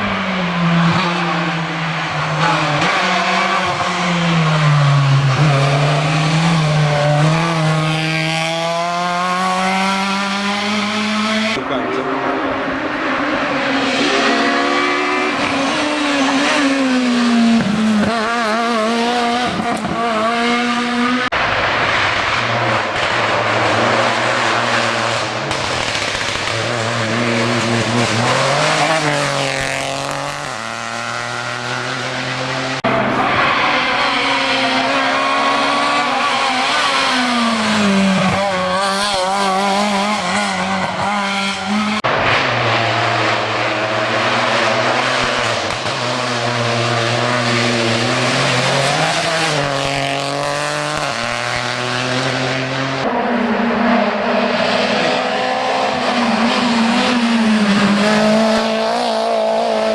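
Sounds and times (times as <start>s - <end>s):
rally car engines revving past: 0.0s - 59.9s.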